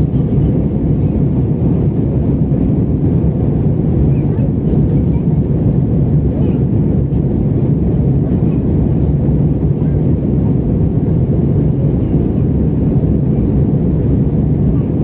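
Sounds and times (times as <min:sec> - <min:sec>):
airplane cabin engine rumble: 0:00.0 - 0:15.0
rushing air: 0:00.0 - 0:15.0.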